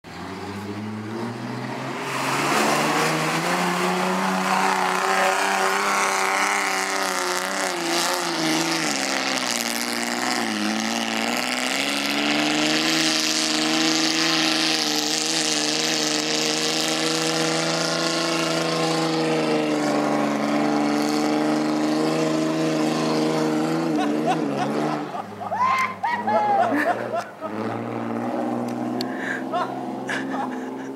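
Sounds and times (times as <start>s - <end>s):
buggy engine at high revs: 0.0s - 30.9s.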